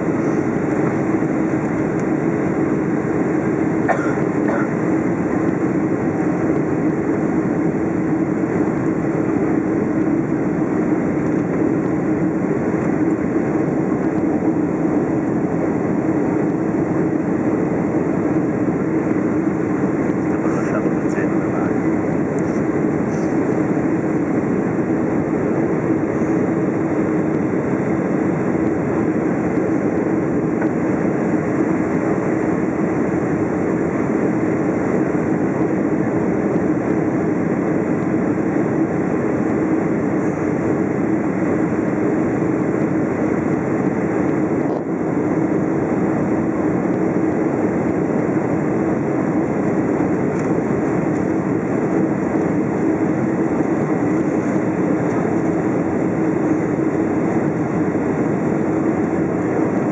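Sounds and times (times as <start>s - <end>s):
airplane cabin engine rush: 0.0s - 59.9s
constant low hum: 0.0s - 59.9s.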